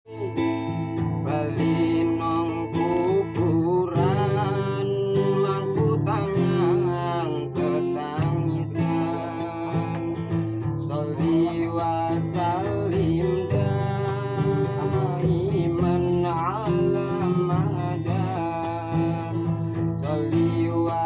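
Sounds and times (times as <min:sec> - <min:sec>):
bending guitar melody: 0:00.1 - 0:21.0
strummed guitar: 0:00.1 - 0:21.0.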